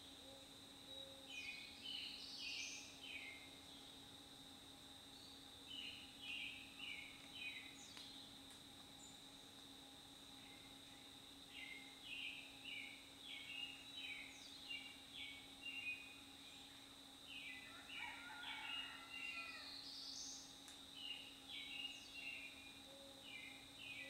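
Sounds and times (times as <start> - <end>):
faint high-pitched hum: 0.0 - 24.0.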